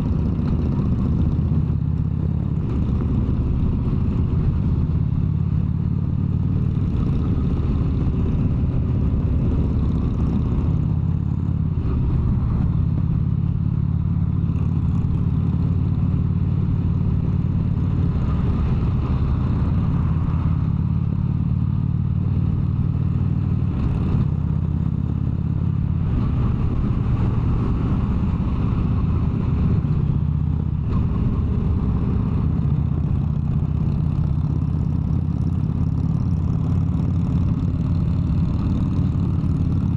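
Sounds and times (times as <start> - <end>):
motorcycle cruising drone: 0.0 - 39.9.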